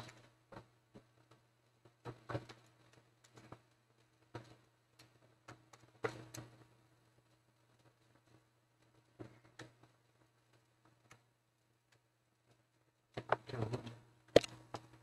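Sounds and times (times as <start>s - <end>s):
small clicks and taps on laptop: 0.0s - 11.3s, 11.9s - 15.0s.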